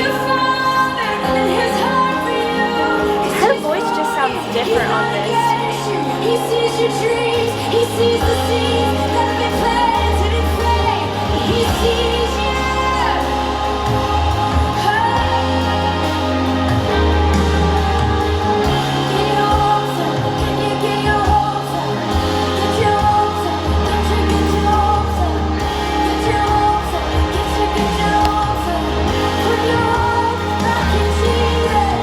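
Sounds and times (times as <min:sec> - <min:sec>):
keyboard chords: 0:00.0 - 0:32.0
person singing worship song: 0:00.0 - 0:32.0
deep bass notes: 0:04.4 - 0:32.0.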